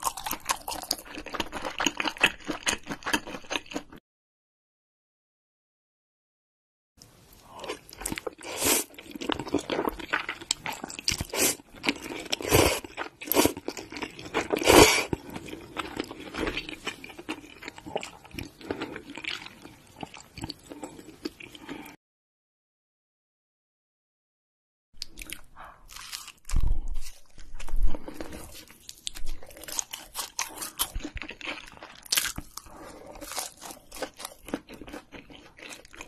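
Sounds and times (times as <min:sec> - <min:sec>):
chewing and crunching: 0:00.0 - 0:04.0, 0:07.6 - 0:22.0, 0:25.0 - 0:36.0.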